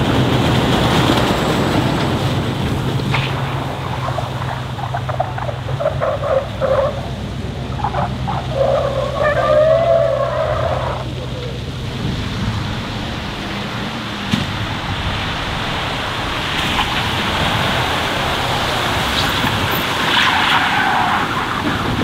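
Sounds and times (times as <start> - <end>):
truck engine running low: 0.0 - 22.0.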